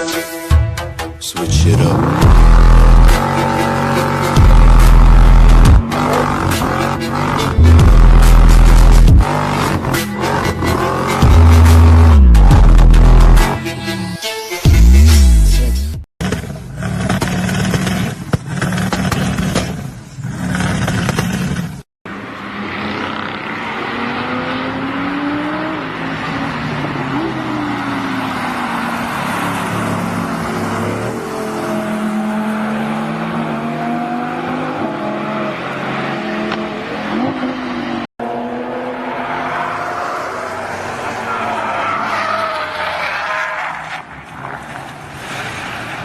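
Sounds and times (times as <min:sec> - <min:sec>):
tyre and road noise: 0:01.4 - 0:13.6, 0:16.2 - 0:46.0
sports car engines revving: 0:01.5 - 0:13.4, 0:16.2 - 0:44.8.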